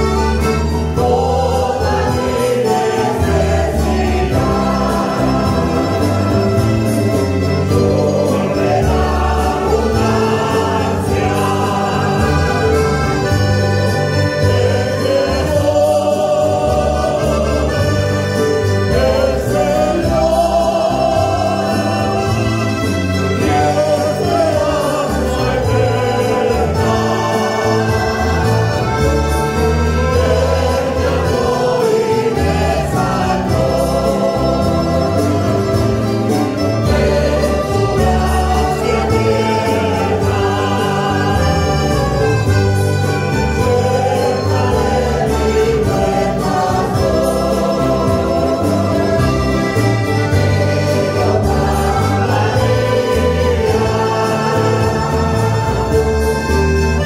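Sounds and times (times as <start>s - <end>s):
accordion: 0.0s - 57.0s
acoustic guitars strumming: 0.0s - 57.0s
choir singing a hymn: 0.0s - 57.0s.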